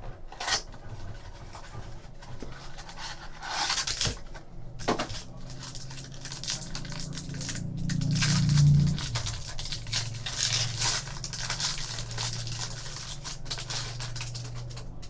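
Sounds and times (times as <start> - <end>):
cards rustling: 1.0 - 15.0
steady low hum: 1.6 - 15.0
wrapper crinkling and tearing: 2.7 - 15.0.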